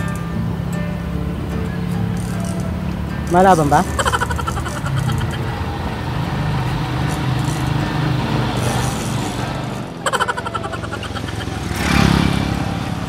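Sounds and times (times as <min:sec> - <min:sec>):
motorcycle engine passing: 0:00.0 - 0:13.0.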